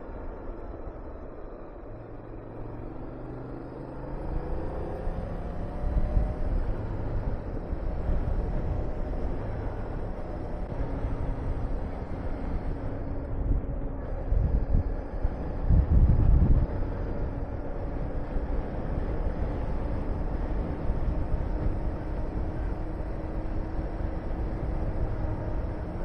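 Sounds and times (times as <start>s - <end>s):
wind rushing over microphone: 4.5s - 26.0s.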